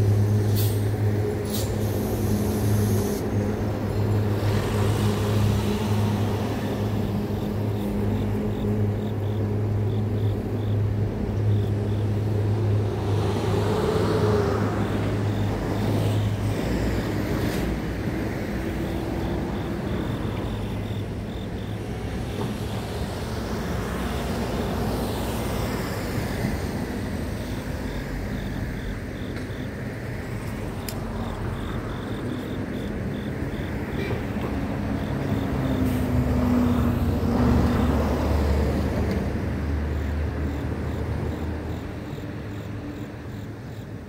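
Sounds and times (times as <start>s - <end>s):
passing traffic: 0.0s - 44.0s
insects chirping: 0.2s - 38.8s, 39.5s - 44.0s.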